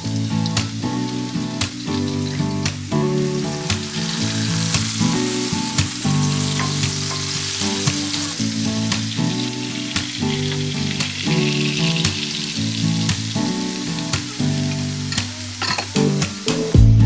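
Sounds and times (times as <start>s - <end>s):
food sizzling in a pan: 0.0s - 16.8s
background music with steady beat: 0.0s - 17.0s.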